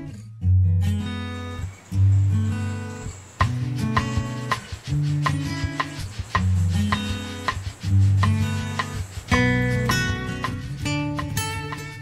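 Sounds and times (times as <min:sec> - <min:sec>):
acoustic guitar strumming: 0:00.6 - 0:12.0.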